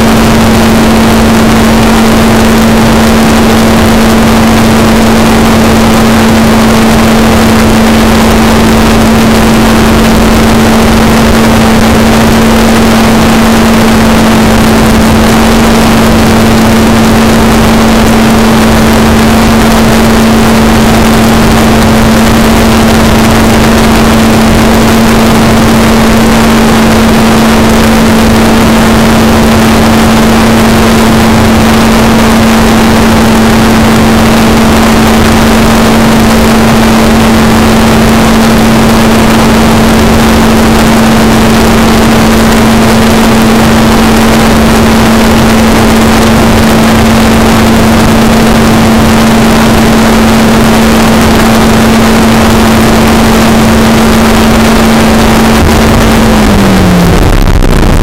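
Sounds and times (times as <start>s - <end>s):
rc helicopter rotor hum: 0.0s - 58.0s
wind rush on microphone: 0.0s - 58.0s.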